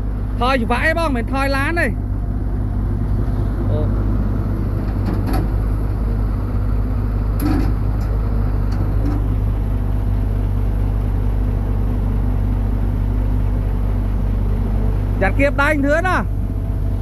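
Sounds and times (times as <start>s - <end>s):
heavy engine rumbling: 0.0s - 17.0s.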